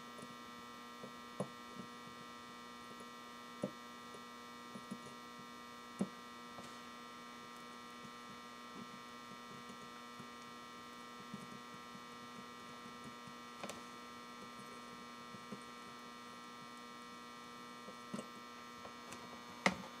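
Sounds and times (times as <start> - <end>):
power inverter hum: 0.0 - 20.0.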